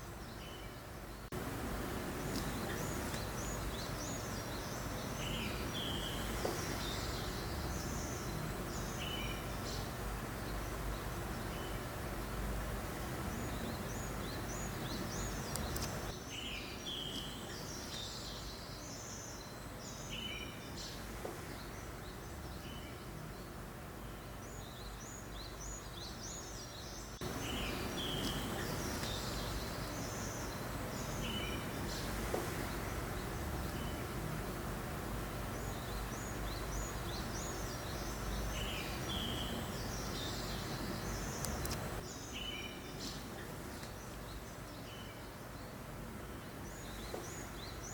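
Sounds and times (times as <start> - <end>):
small birds chirping: 0.0 - 47.9
steady breeze-like noise: 0.0 - 47.9.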